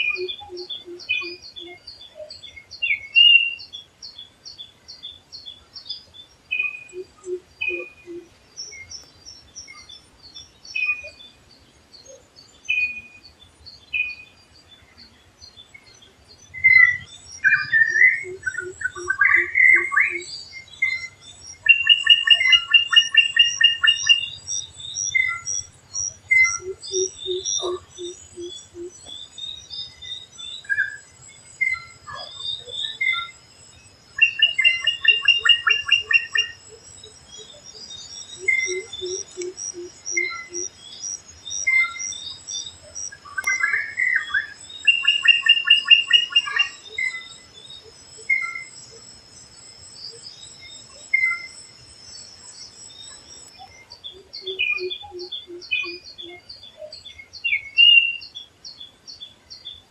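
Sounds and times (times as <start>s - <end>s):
low evenly spaced bird notes: 0.0s - 59.9s
wild birds chirping and whistling: 0.0s - 59.9s.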